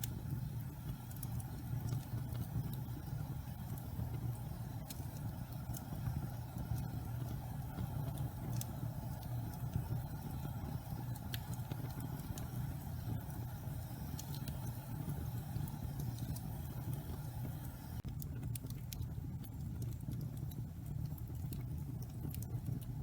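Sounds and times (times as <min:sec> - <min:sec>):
burning logs crackling and popping: 0:00.0 - 0:23.0
fire flames rumbling: 0:00.0 - 0:23.0.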